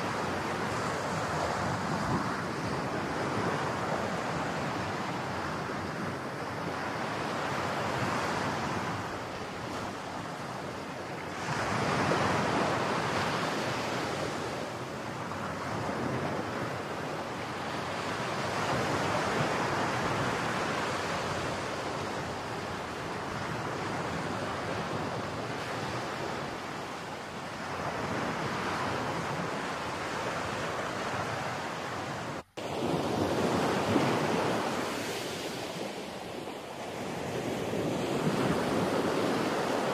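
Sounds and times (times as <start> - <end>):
wind buffeting microphone: 0.0 - 10.6, 15.2 - 39.9
rough surf: 0.0 - 39.9
rushing wind: 0.0 - 39.9.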